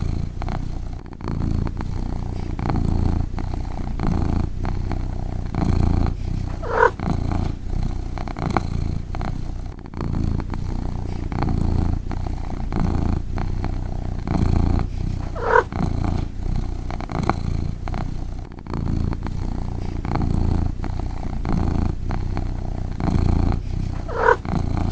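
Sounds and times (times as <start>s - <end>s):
cat snoring: 0.0s - 24.9s.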